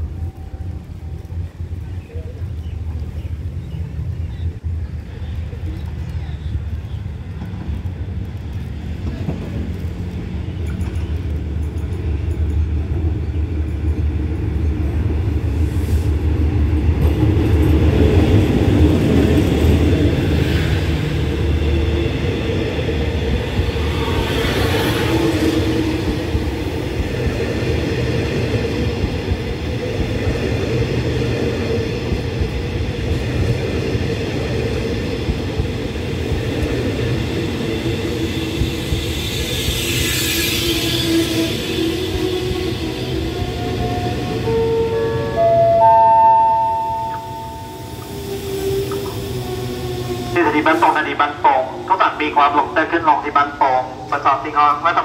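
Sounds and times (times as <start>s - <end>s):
train rumbling to a stop: 0.0s - 55.0s.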